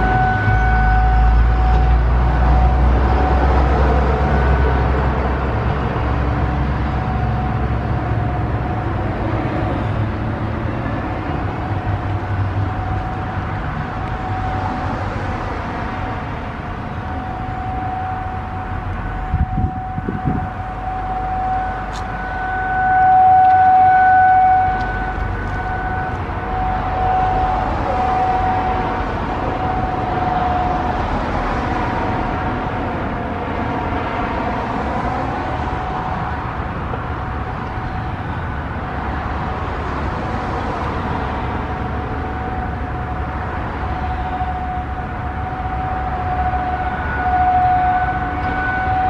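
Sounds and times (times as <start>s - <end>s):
warning siren steady tone: 0.0s - 49.0s.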